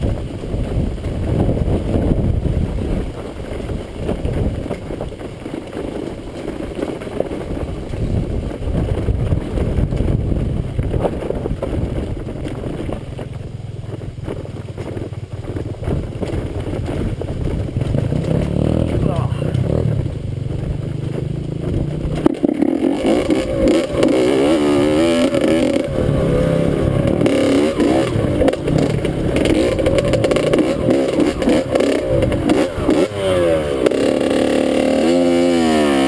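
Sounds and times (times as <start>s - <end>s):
dirt bike engine running: 0.0s - 36.0s
wind buffeting microphone: 0.0s - 36.0s.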